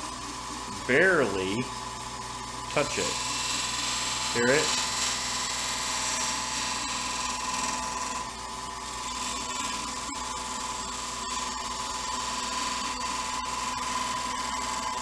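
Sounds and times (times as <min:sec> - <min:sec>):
wood lathe humming: 0:00.0 - 0:15.0.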